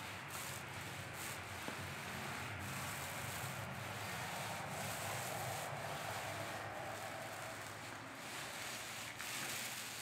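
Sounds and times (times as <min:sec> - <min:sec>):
paint roller swishing on metal: 0:00.0 - 0:10.0.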